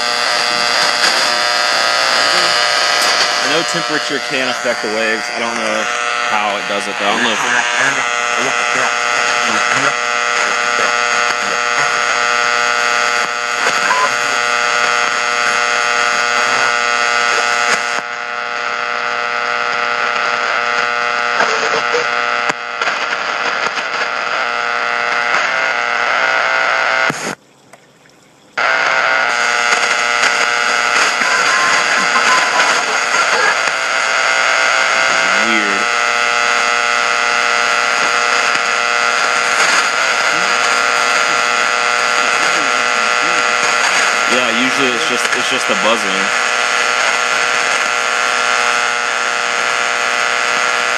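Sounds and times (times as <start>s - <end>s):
radio static: 0.0s - 27.4s, 28.6s - 50.9s
dense radio buzzing: 0.0s - 27.5s, 28.5s - 50.9s.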